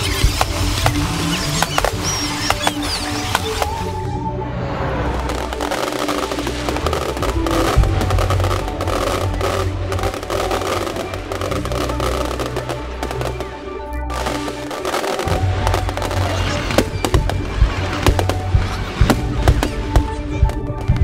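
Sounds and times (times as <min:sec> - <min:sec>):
fireworks bursting and crackling: 0:00.0 - 0:04.2, 0:05.0 - 0:21.0
music: 0:00.0 - 0:21.0.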